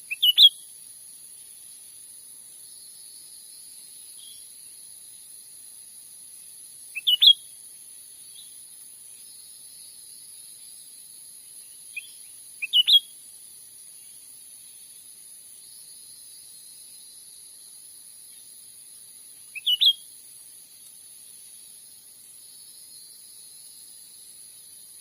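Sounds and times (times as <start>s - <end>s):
bird chirping: 0.0s - 5.4s, 6.3s - 25.0s
high insect drone: 0.0s - 25.0s.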